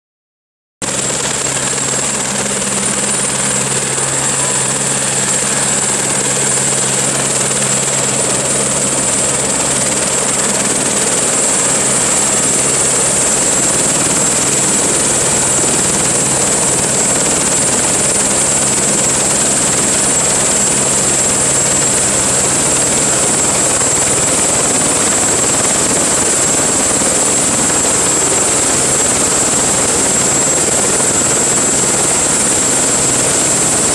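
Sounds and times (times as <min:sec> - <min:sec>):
helicopter idling with rotor turning: 0:00.8 - 0:33.9.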